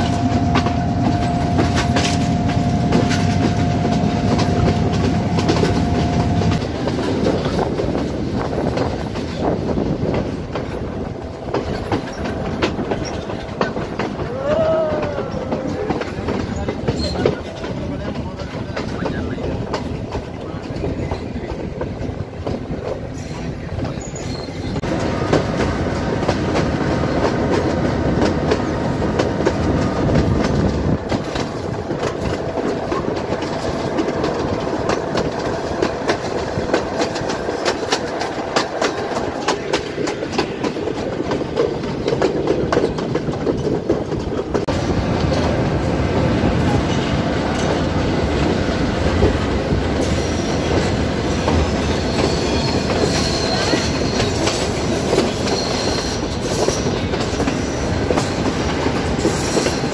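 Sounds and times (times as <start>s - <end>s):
train rumbling: 0.0s - 59.9s
wheels clattering over rail joints: 0.0s - 59.9s.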